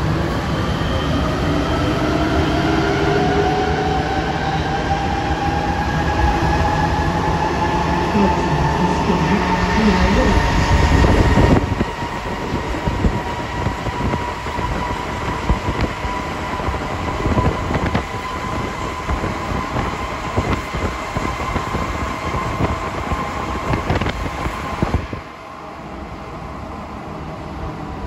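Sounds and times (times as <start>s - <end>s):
metro train rumble in tunnel: 0.0s - 28.0s.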